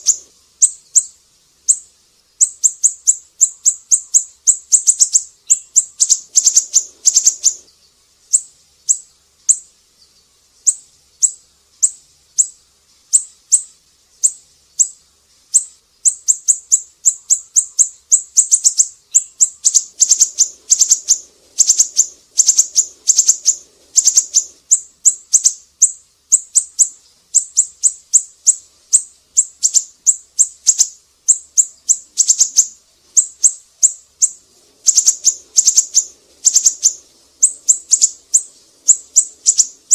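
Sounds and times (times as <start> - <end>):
bird singing high chips: 0.0 - 39.9.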